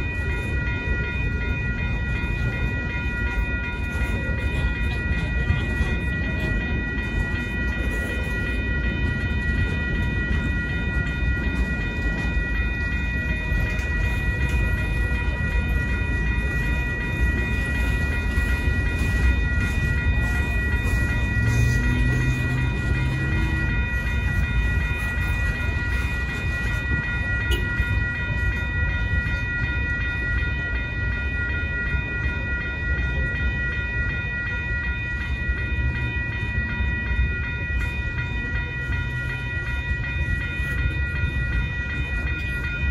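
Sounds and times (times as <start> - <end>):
steady high ringing: 0.0 - 42.9
train wheels clattering on rails: 0.0 - 42.9.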